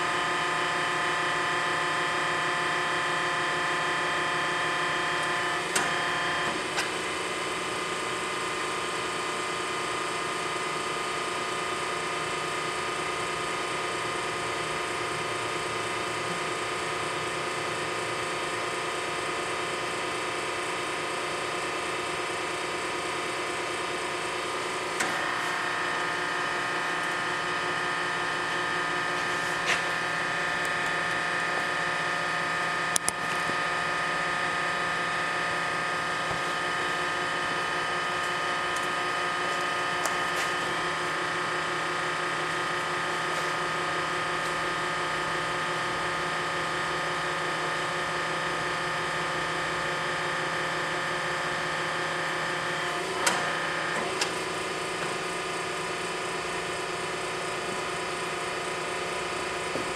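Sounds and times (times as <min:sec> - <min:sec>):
hydraulic machine humming: 0:00.0 - 0:59.9.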